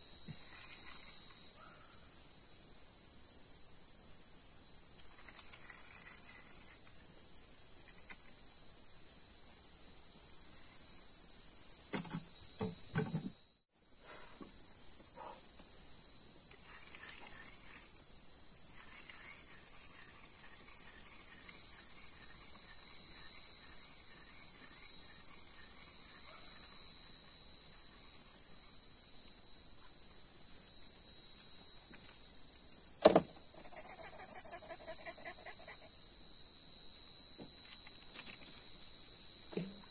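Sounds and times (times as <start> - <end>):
crickets and night insects chirping: 0.0 - 39.9.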